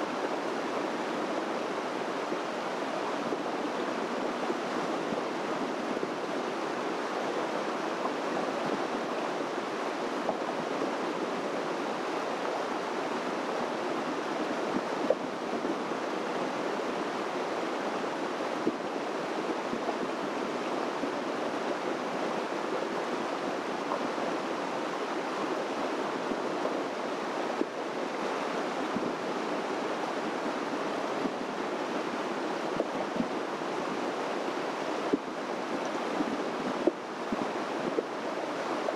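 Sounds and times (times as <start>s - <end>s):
creek water rushing: 0.0s - 38.9s.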